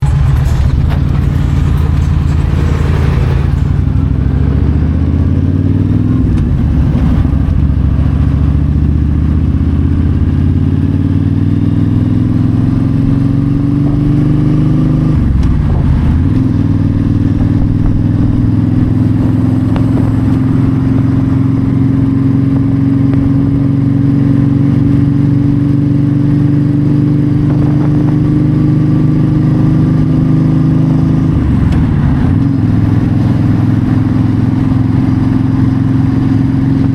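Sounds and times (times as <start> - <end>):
motorcycle engine accelerating: 0.0 - 36.9
wind and road noise: 0.0 - 36.9.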